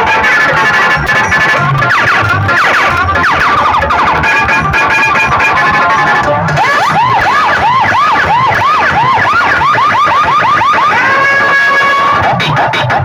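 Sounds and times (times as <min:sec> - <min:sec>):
yelping siren wail: 0:00.0 - 0:12.7.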